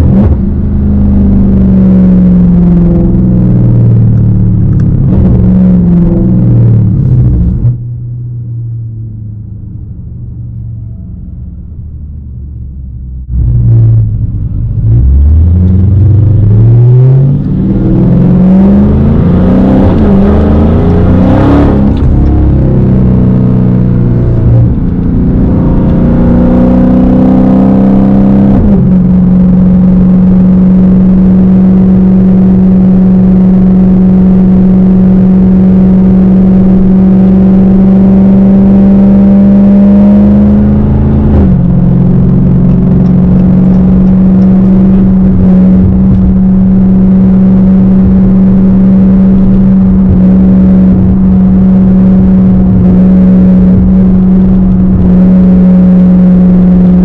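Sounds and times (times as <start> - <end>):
car exhaust revving and shifting: 0.0 - 57.0.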